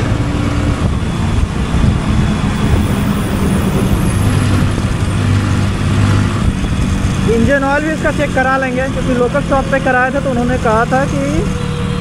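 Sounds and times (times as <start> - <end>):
road and wind noise: 0.0 - 12.0
motorcycle engine running: 0.6 - 12.0.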